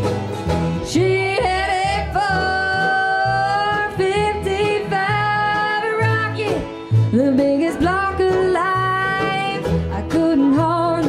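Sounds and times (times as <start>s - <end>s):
acoustic guitar: 0.0s - 11.0s
person singing: 0.8s - 11.0s.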